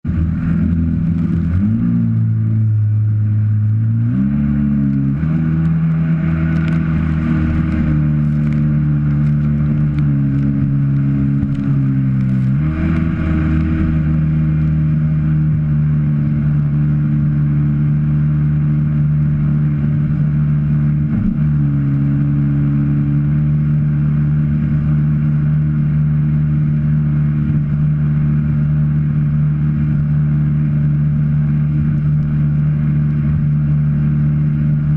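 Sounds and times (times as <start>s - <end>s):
jet ski engine running: 0.0s - 34.9s.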